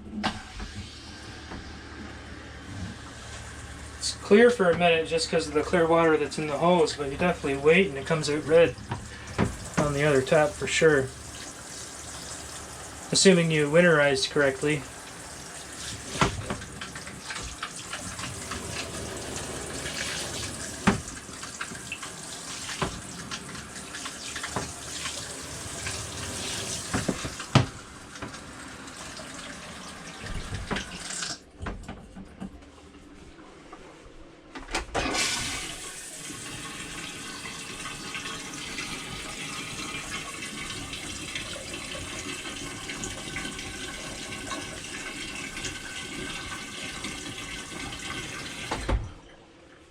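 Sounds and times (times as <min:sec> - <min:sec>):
faucet running water: 0:00.0 - 0:31.5, 0:35.0 - 0:49.0.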